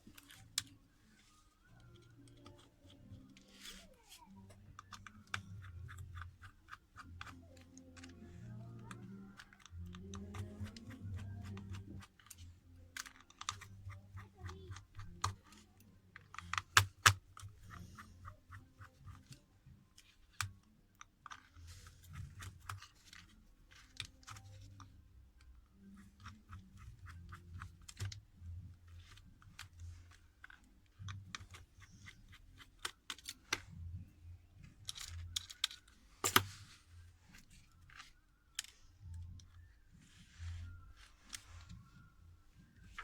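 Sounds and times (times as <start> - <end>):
small tools clicking on phone parts: 1.6 - 34.0, 34.6 - 39.7.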